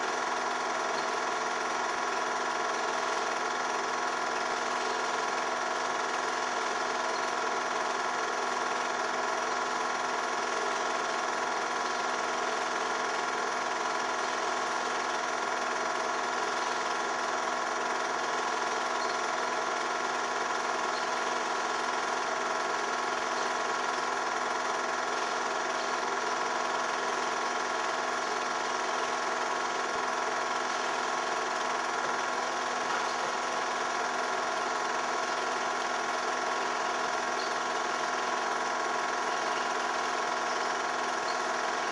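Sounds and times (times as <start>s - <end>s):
film projector whirring and clattering: 0.0s - 41.9s.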